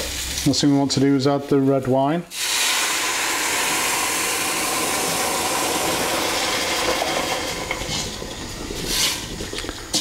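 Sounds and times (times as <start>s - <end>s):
wine sizzling in hot pot: 0.0s - 10.0s.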